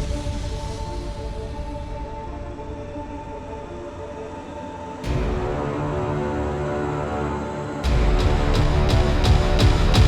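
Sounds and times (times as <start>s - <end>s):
background music held notes: 0.0s - 10.0s.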